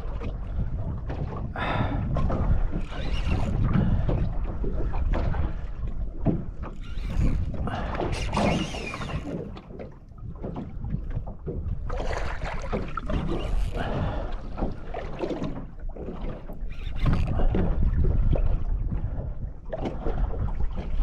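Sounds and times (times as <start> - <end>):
water slapping boat hull: 0.0 - 21.0
wind buffeting microphone: 0.0 - 21.0.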